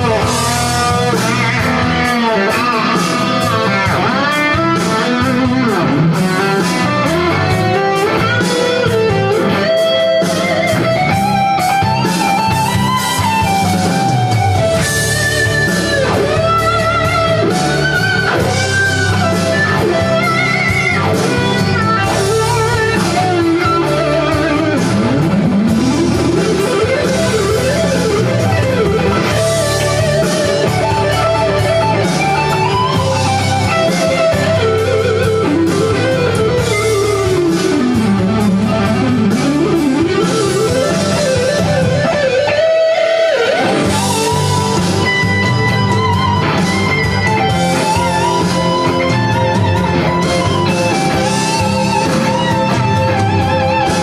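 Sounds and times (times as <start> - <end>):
bass: 0.0 - 54.0
drums: 0.0 - 54.0
electric guitar lead: 0.0 - 54.0.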